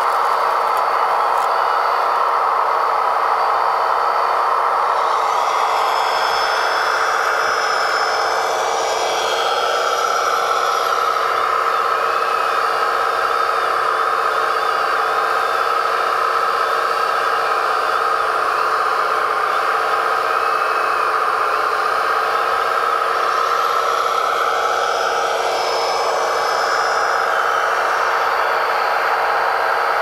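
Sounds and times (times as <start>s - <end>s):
rising whine: 0.0s - 30.0s
toy excavator humming: 0.0s - 30.0s.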